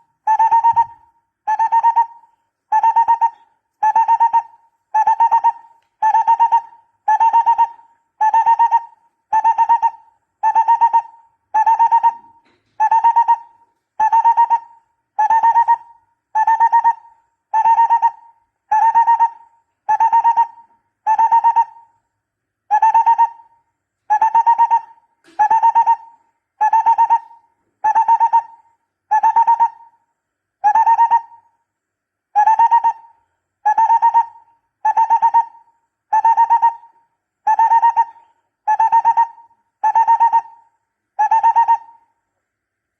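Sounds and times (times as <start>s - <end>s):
bird hooting call: 0.0s - 22.0s, 22.7s - 31.6s, 32.3s - 42.2s.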